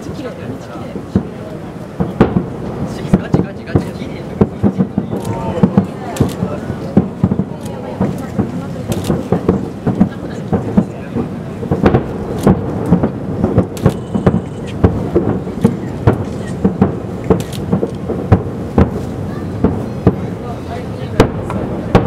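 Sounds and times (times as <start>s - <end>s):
distant firework explosions: 0.0s - 22.0s.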